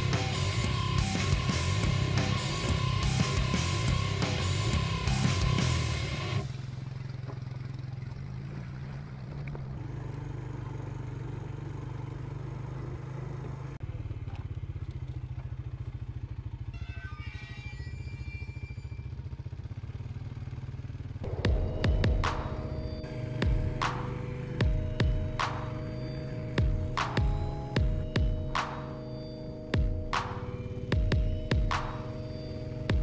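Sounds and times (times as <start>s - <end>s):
atv engine running: 0.0s - 16.8s, 18.0s - 33.0s.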